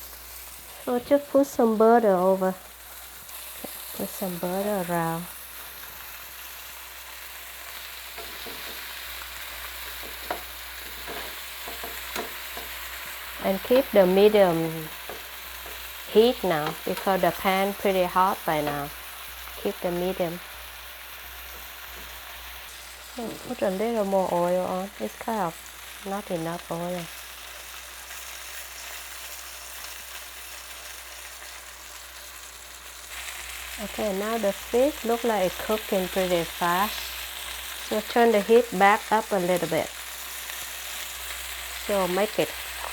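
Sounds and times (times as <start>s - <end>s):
fish sizzling in a frying pan: 0.0s - 42.9s.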